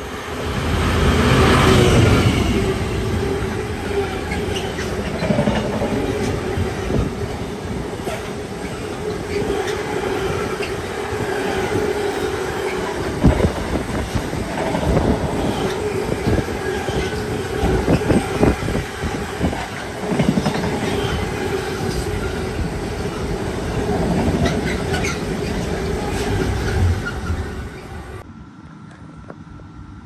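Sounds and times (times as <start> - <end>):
freight train wheels rumbling: 0.0 - 28.3.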